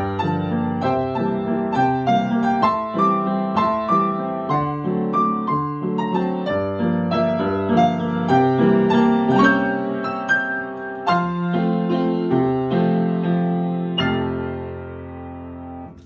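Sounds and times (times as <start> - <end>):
grand piano waltz: 0.0 - 16.0.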